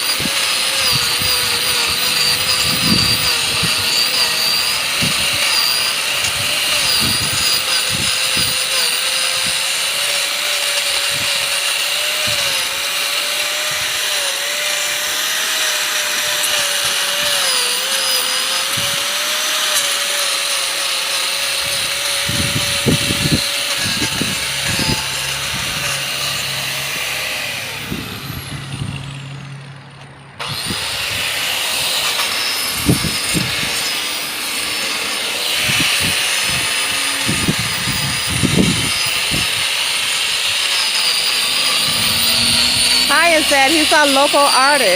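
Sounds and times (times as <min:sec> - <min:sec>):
power carving tool cutting wood: 0:00.0 - 0:44.9.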